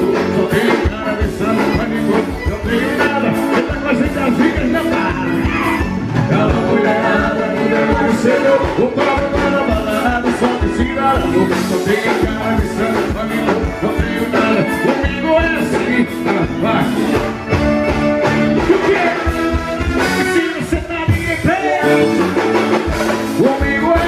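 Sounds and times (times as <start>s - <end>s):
person singing: 0.0s - 17.7s, 18.4s - 24.0s
live band playing: 0.0s - 24.0s.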